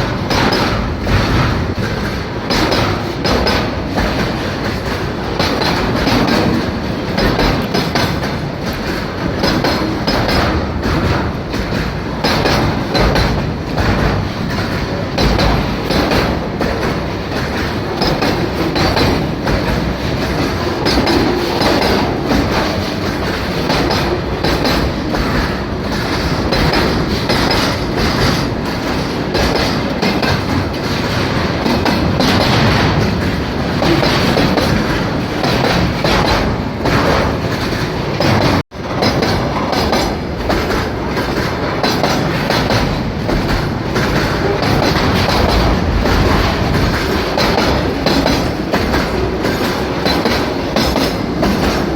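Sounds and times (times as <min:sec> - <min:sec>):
freight train wheels clattering: 0:00.0 - 0:51.9.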